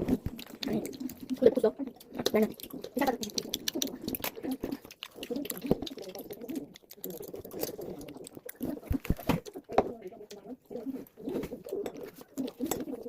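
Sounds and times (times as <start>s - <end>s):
people eating: 0.0s - 13.0s.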